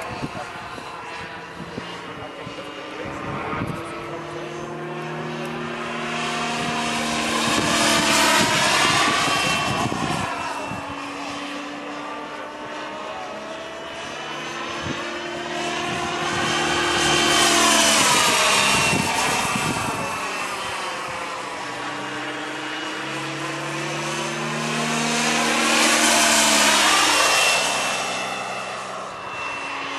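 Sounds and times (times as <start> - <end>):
model helicopter turbine whine: 0.0 - 29.9.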